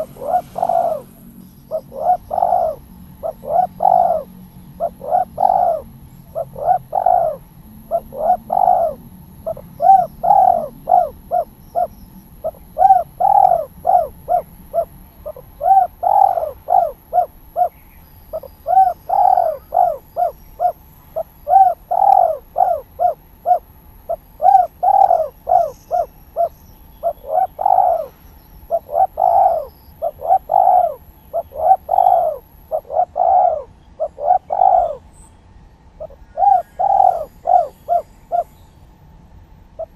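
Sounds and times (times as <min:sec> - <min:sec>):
dove cooing: 0:00.0 - 0:35.1, 0:36.0 - 0:38.5.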